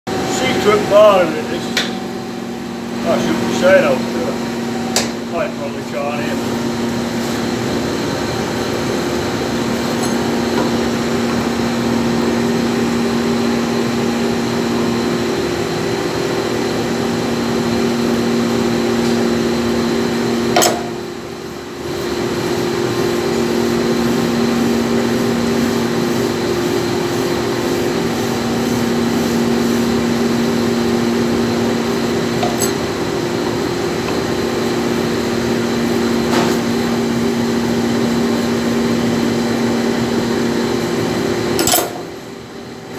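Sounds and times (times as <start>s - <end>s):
grinding machine humming: 0.1s - 42.9s.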